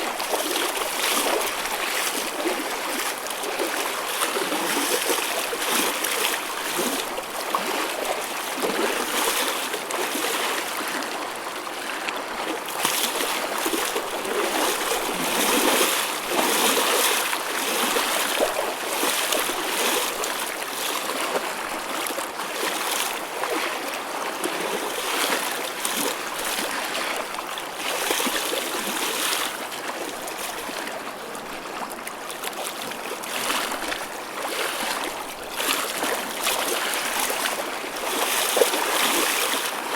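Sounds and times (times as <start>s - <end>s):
choppy ocean waves: 0.0s - 39.9s.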